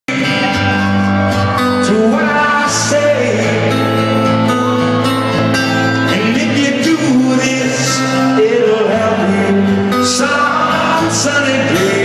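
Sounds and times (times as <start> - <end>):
man singing: 0.1 - 4.6, 5.6 - 12.0
acoustic guitar: 0.1 - 12.0.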